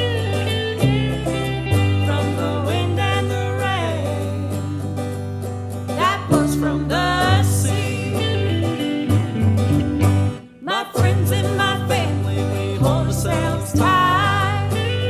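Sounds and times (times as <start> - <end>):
person singing: 0.0 - 5.2, 5.9 - 8.9, 10.4 - 15.0
bass notes: 0.0 - 15.0
guitars: 0.0 - 15.0.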